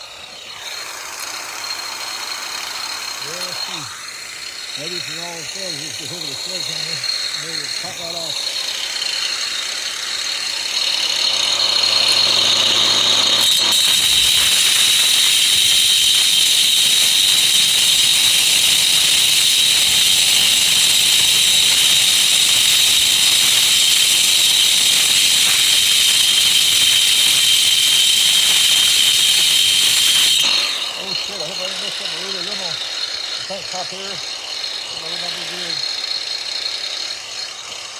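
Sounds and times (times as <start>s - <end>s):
electric grinder whining: 0.0s - 37.9s.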